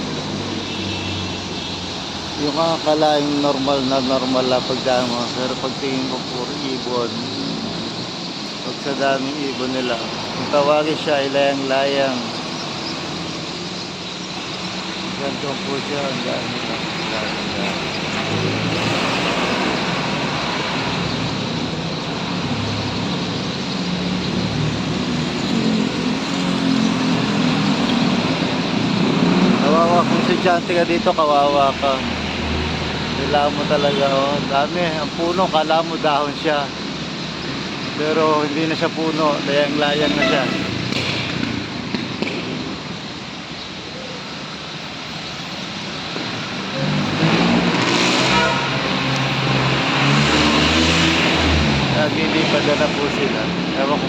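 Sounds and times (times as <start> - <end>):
street traffic noise: 0.0 - 54.0
vehicles passing: 0.0 - 54.0.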